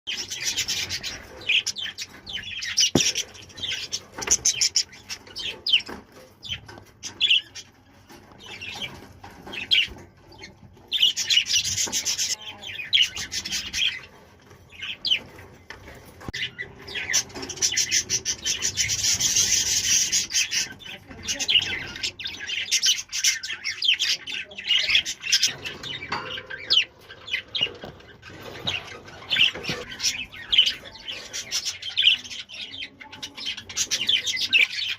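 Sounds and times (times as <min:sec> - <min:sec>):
budgies chirping and chattering: 0:00.1 - 0:34.9.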